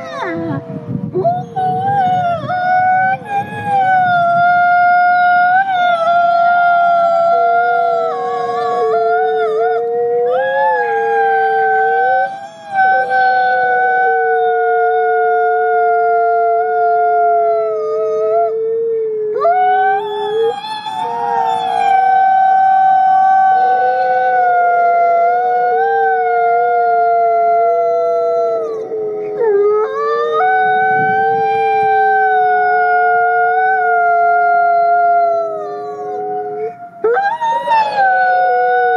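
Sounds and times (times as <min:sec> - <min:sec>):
second lower wolf howl: 0:00.0 - 0:38.9
wolf howling: 0:00.0 - 0:38.9.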